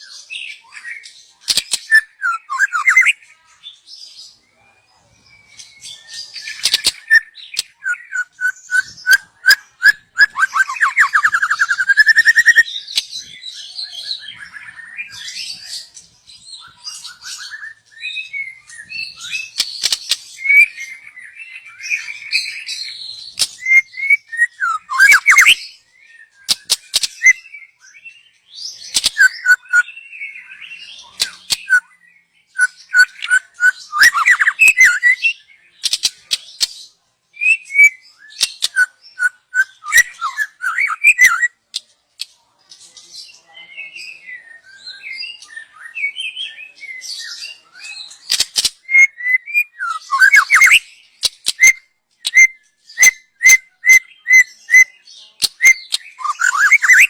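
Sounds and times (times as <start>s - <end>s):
bird singing whistled phrases: 0.0s - 3.2s, 5.3s - 15.9s, 16.6s - 36.4s, 37.4s - 41.6s, 43.8s - 57.0s.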